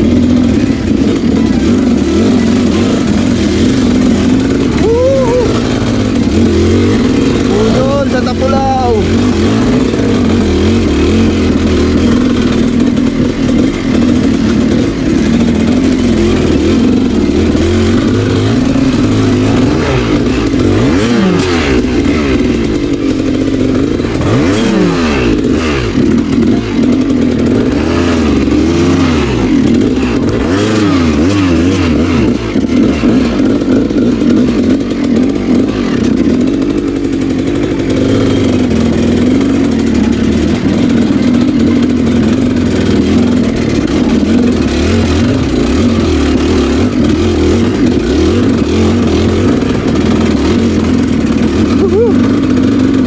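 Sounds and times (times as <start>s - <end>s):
motorcycle engine revving: 0.0s - 53.0s
rattling: 0.0s - 53.0s.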